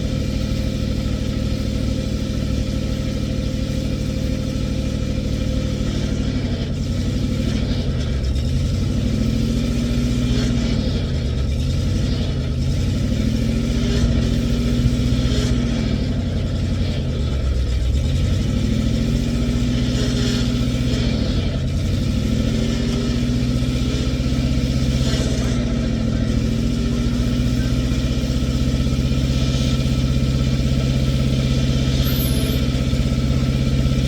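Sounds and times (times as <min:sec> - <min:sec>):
backhoe engine running hard: 0:00.0 - 0:34.0
hydraulic whine: 0:00.0 - 0:34.0.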